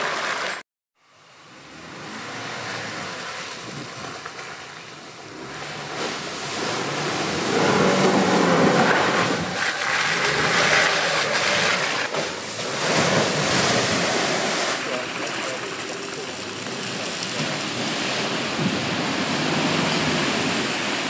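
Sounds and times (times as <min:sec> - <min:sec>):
car engine pulling: 0:00.0 - 0:21.0
tyres splashing through mud: 0:01.6 - 0:21.0.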